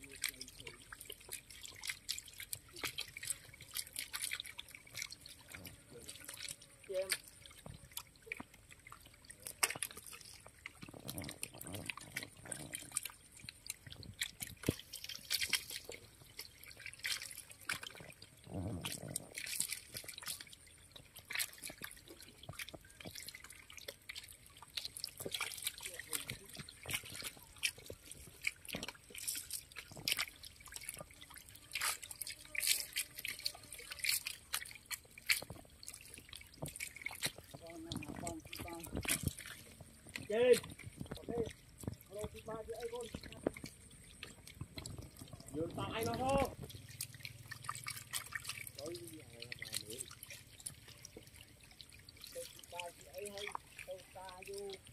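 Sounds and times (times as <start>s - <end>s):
fish splashing in shallow water: 0.0s - 54.9s.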